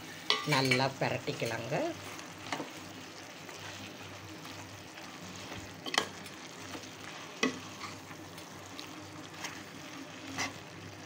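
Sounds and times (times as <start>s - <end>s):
food sizzling in oil: 0.0s - 11.0s
spatula stirring: 0.1s - 11.0s.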